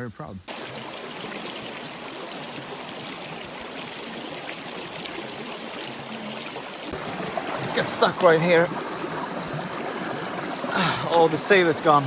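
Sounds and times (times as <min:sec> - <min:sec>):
small stream flowing: 0:00.4 - 0:12.0.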